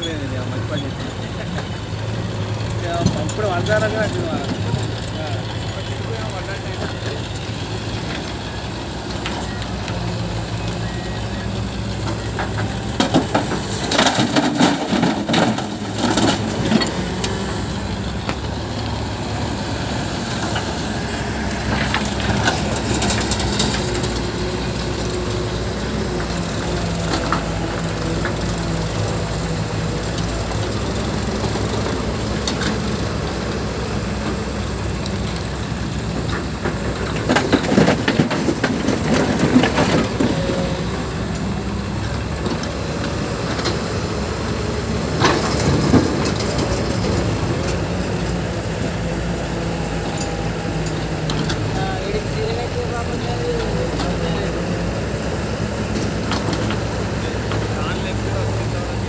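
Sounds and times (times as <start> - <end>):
clattering and crunching: 0.0 - 59.0
diesel engine running: 0.0 - 59.0.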